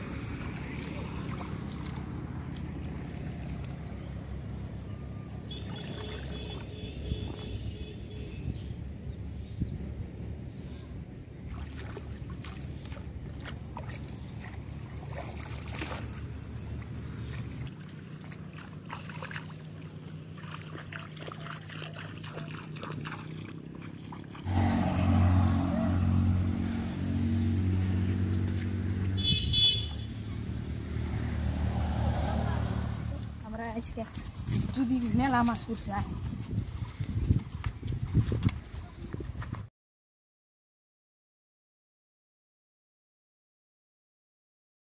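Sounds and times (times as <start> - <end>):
splashing in shallow water: 0.0 - 8.9, 11.3 - 39.7
engine-like hum: 0.0 - 39.7.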